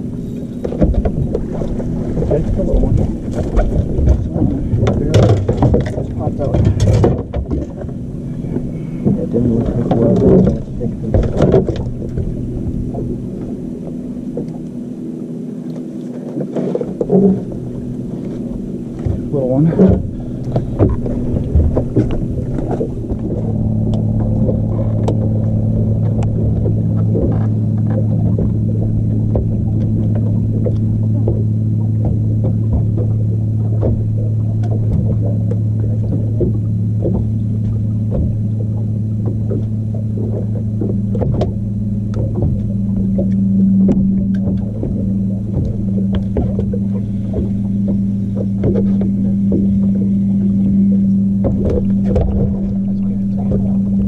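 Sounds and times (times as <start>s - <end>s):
boat motor humming: 0.0s - 54.0s
knocks and clatter in boat: 0.0s - 54.0s
water slapping against hull: 0.0s - 54.0s.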